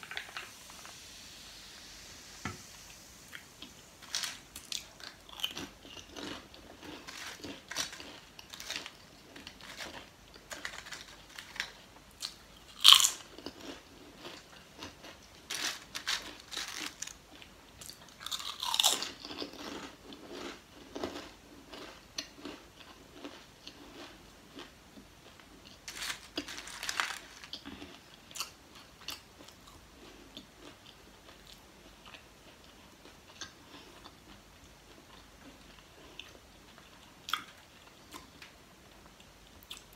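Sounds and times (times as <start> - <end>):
crunching potato chips: 3.6 - 37.6.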